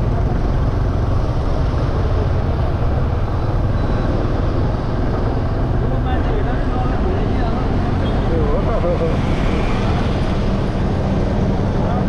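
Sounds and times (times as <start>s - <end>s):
motorbike road noise: 0.0s - 12.0s.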